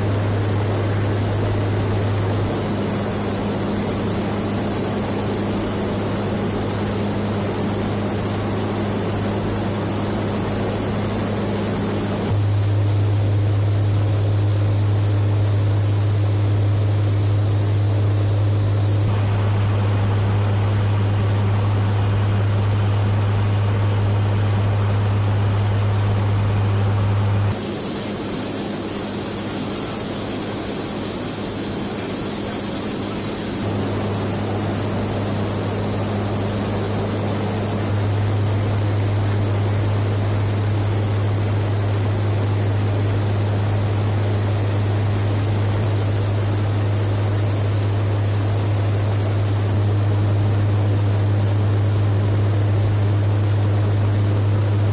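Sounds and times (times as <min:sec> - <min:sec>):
turboprop engines droning: 0:00.0 - 0:54.9.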